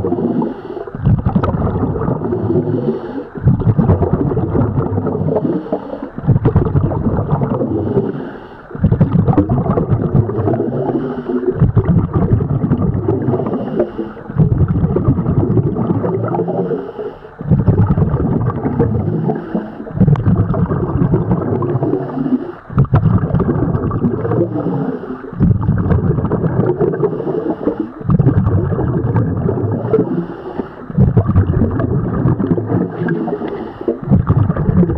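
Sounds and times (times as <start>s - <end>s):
diver exhaling bubbles underwater: 0.0s - 34.9s.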